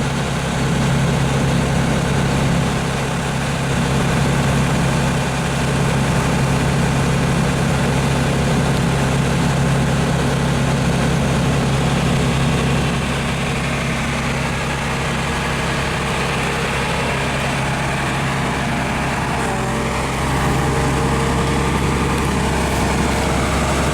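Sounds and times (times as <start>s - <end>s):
excavator diesel engine humming: 0.0s - 23.9s.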